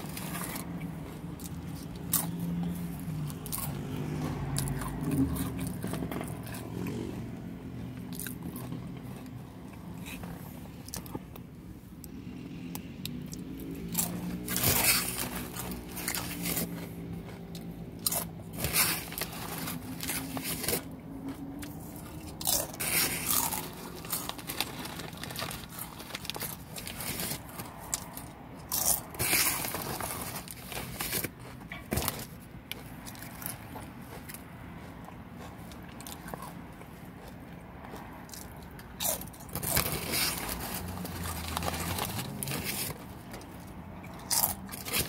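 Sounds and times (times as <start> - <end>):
chips crunching: 0.0 - 7.1, 13.0 - 45.0
crackly chewing: 0.0 - 45.0.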